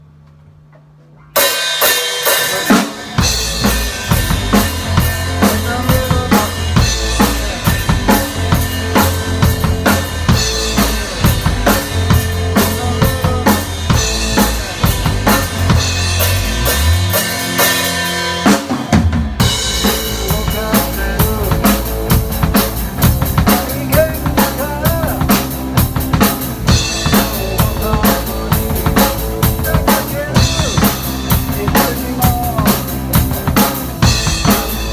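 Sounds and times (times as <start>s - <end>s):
drum kit over heavy bass line: 1.3s - 34.9s.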